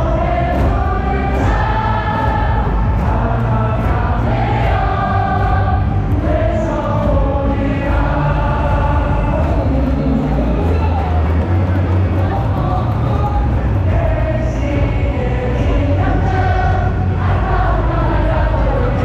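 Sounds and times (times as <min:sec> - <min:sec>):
stadium crowd singing a cheer: 0:00.0 - 0:19.0.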